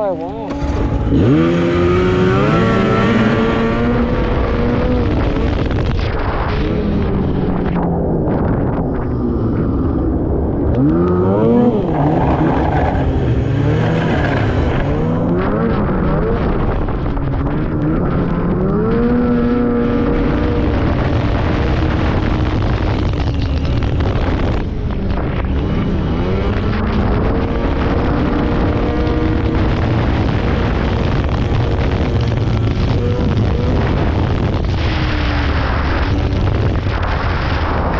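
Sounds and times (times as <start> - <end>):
snowmobile engine running hard: 0.0 - 37.9.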